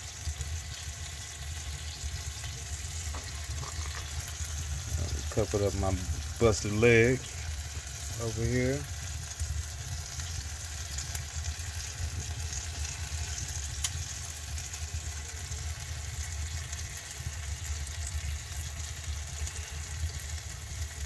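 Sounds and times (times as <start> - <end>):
sauce sizzling: 0.0 - 21.0
faint crackles: 0.2 - 21.0.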